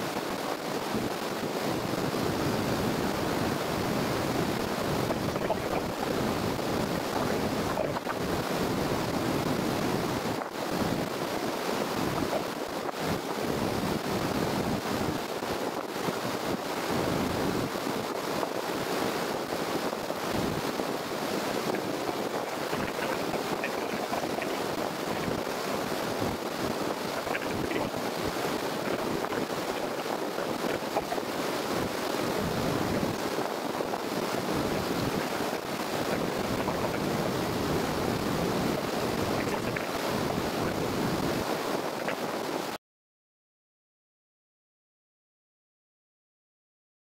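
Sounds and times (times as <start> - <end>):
river rushing over rapids: 0.0 - 42.8.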